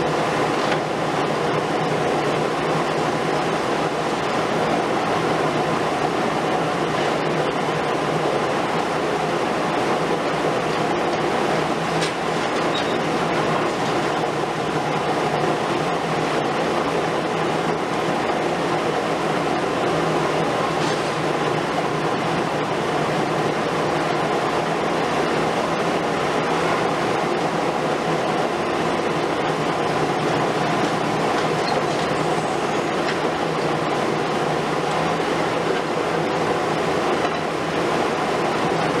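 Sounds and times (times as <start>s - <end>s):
excavator diesel engines and hydraulics: 0.0s - 39.0s.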